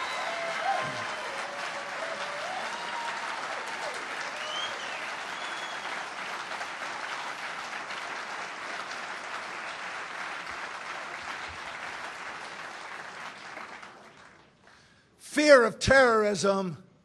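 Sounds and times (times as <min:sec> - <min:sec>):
audience applause: 0:00.0 - 0:14.9.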